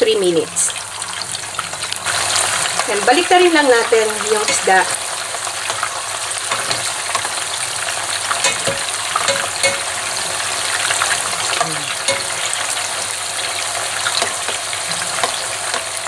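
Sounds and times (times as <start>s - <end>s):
food sizzling in hot oil: 0.0s - 16.0s
oil crackling and popping: 0.7s - 16.0s.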